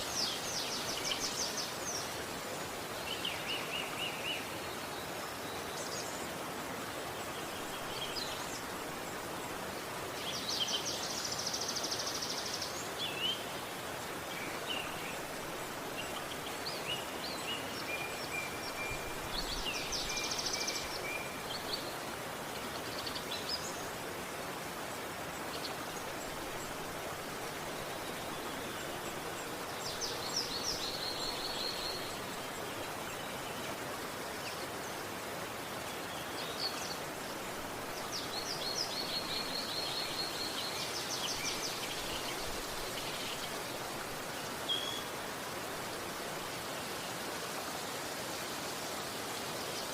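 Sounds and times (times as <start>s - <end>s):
flowing river water: 0.0s - 49.9s.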